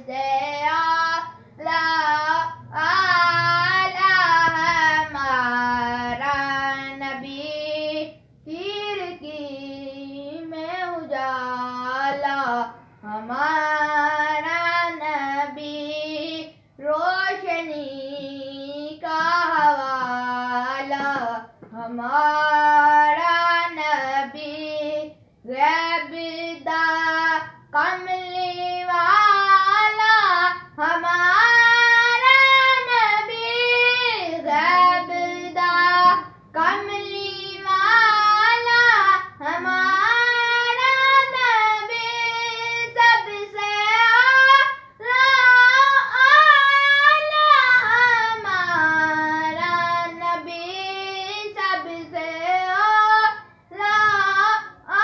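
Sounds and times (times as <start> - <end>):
boy singing unaccompanied: 0.0 - 55.0.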